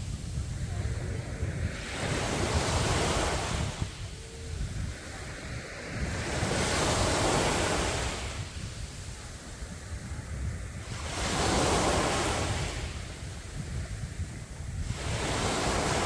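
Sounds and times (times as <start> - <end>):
sea waves breaking: 0.0 - 16.0
wind rumble on microphone: 0.0 - 16.0.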